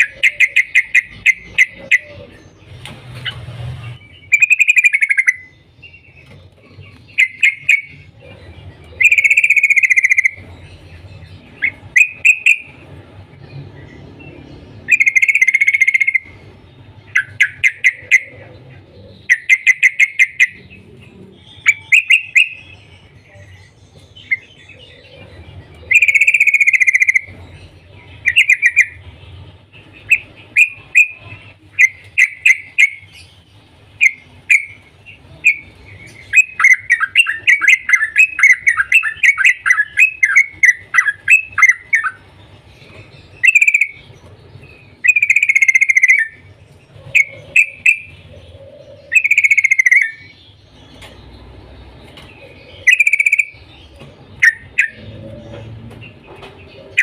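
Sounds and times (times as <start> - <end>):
bulbul singing: 0.0 - 57.0.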